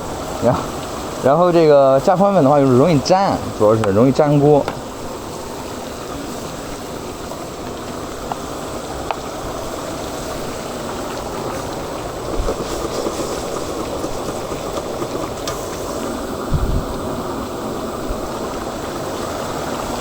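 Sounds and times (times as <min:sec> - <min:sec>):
chicken hissing in woks: 0:00.0 - 0:20.0.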